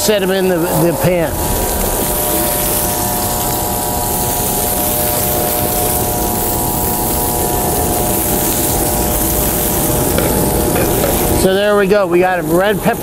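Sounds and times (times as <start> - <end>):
fish and peppers sizzling in oil: 0.0 - 13.0
propane burner roaring: 0.0 - 13.0.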